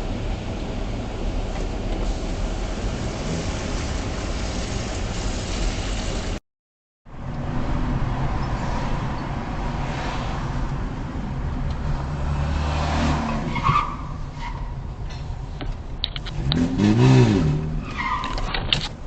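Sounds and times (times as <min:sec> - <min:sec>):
car engine and road noise: 0:00.0 - 0:06.4, 0:07.0 - 0:19.0.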